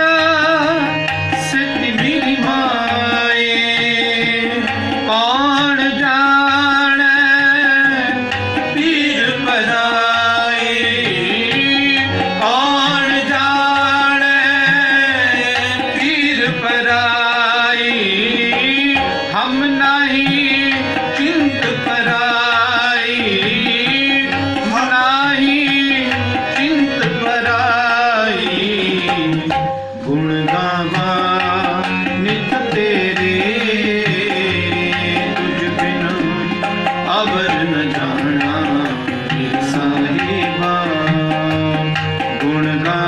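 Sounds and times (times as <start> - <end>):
harmoniums playing: 0.0 - 43.0
tabla beat: 0.0 - 43.0.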